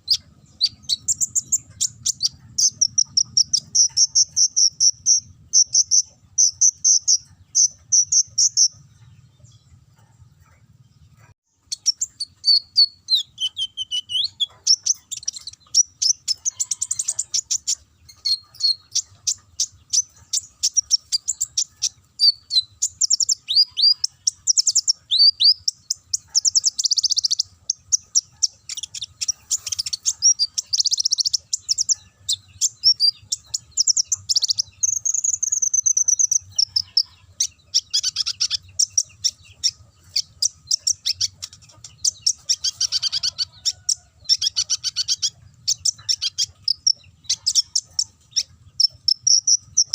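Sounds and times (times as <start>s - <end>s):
bird singing rapid trills: 0.0s - 49.9s.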